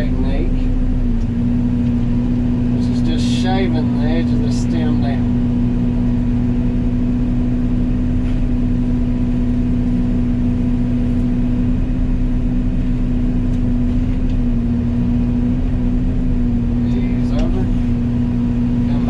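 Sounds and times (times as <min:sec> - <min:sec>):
excavator mulcher humming: 0:00.0 - 0:19.0.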